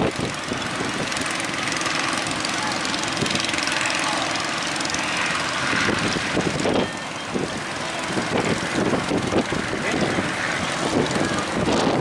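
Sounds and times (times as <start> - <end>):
boat engines running: 0.0 - 12.0
wind and water rushing: 0.0 - 12.0.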